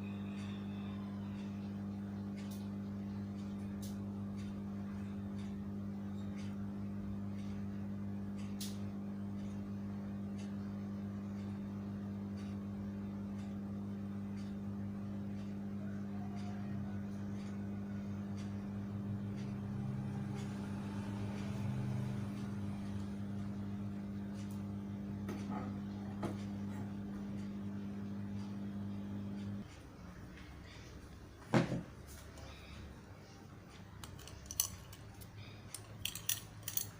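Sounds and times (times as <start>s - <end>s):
low electrical hum: 0.0s - 36.9s.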